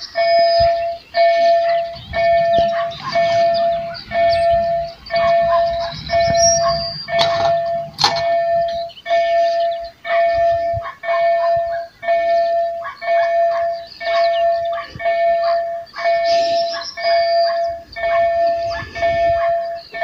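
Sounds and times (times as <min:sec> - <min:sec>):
level crossing electronic warning tone: 0:00.0 - 0:20.0.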